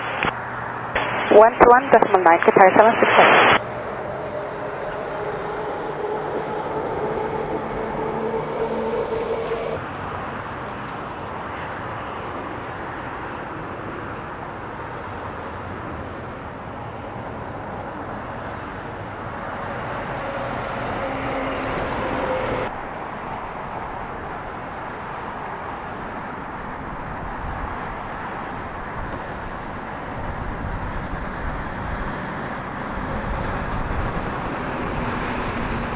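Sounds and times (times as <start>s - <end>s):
aircraft and vehicle rumble: 0.0s - 35.9s.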